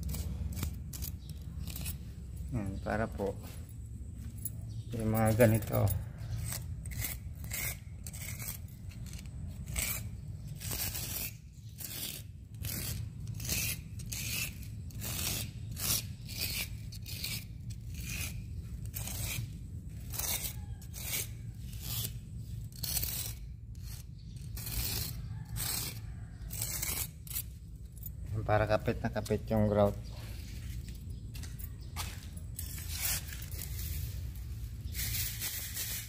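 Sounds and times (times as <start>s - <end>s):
hacksaw blade scraping grout: 0.0s - 2.4s, 5.0s - 30.8s, 32.5s - 36.0s.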